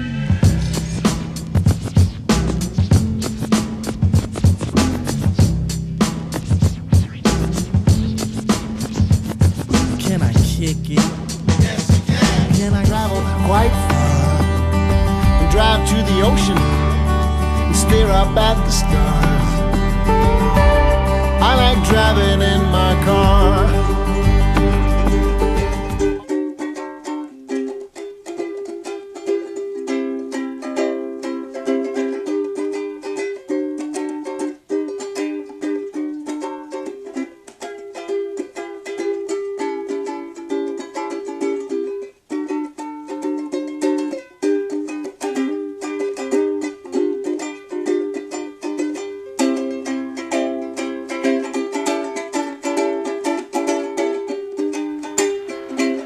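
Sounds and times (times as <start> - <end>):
plucked string instrument: 0.0 - 56.0.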